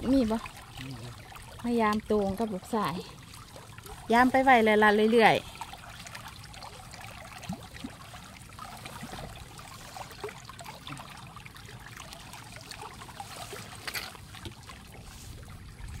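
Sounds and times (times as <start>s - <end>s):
water flowing and trickling: 0.0s - 16.0s.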